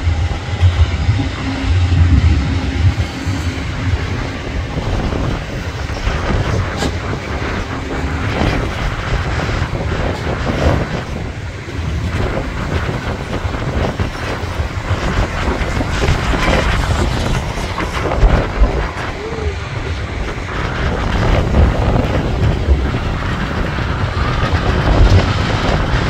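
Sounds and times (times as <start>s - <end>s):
steel wheels rumbling on rail: 0.0s - 26.0s
train clanks and clatter: 0.0s - 26.0s.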